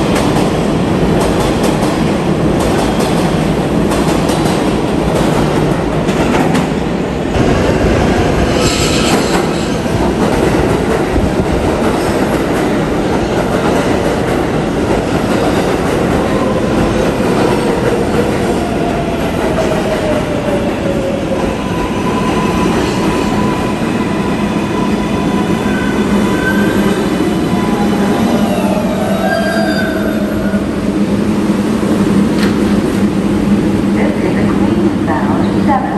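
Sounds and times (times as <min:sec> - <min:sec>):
subway train running on track: 0:00.0 - 0:35.9.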